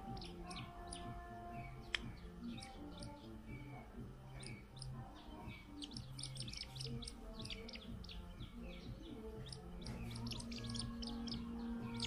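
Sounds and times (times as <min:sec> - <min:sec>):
chicks chirping: 0:00.0 - 0:12.0
slow low background music: 0:00.0 - 0:12.0.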